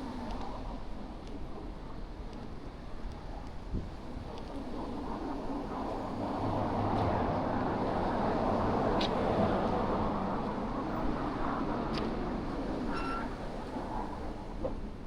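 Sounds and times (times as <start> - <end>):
vehicle engine hum and tyre noise: 0.0 - 15.0.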